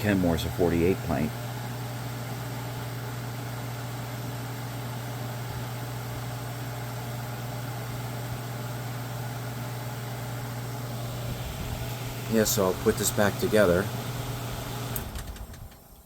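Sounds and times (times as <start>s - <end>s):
dehumidifier hum: 0.0s - 16.0s
fan rushing: 0.0s - 16.0s.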